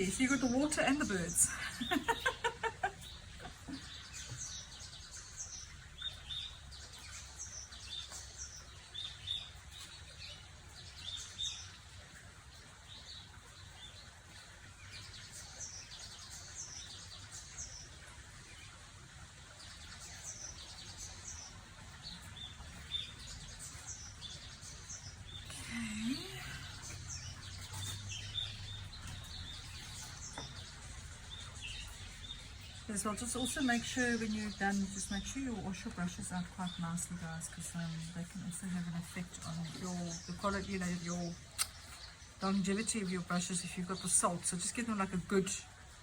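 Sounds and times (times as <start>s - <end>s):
wild birds singing and chirping: 0.0s - 46.0s.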